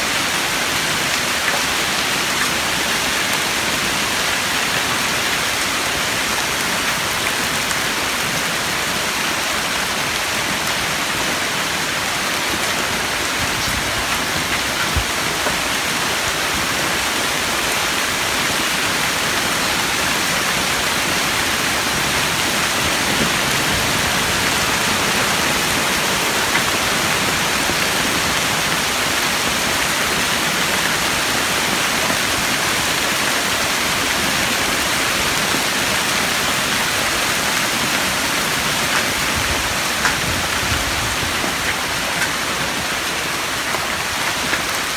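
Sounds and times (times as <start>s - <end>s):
hail and rain pelting: 0.1s - 44.9s.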